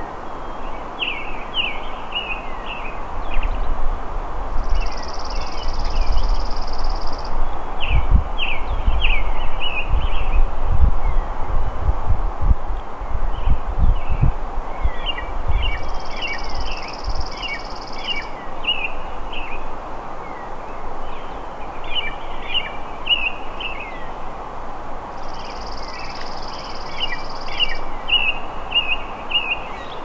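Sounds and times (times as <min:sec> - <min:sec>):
birds chirping: 0:00.0 - 0:11.4, 0:13.0 - 0:24.3, 0:25.1 - 0:30.0
outdoor background hiss: 0:00.0 - 0:30.0.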